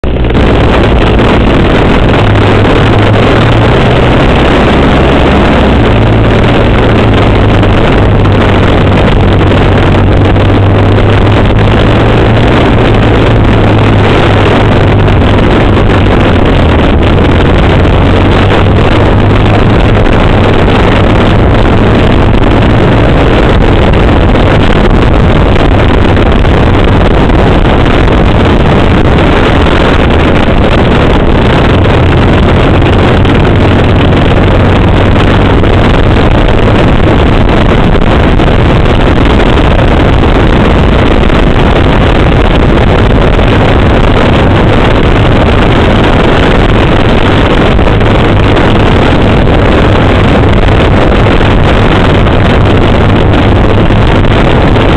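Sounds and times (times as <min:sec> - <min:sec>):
motorcycle engine running: 0:00.0 - 0:54.9
road noise: 0:00.0 - 0:54.9
wind noise: 0:00.0 - 0:54.9.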